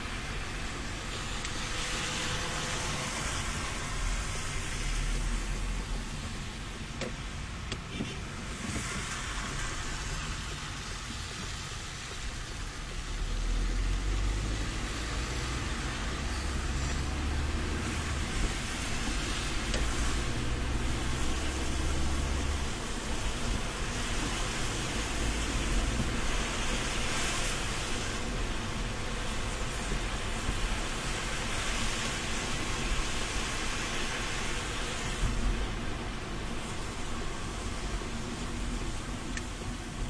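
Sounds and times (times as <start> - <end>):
road and engine rumble: 0.0 - 40.0
tyres hissing on wet road: 0.0 - 40.0.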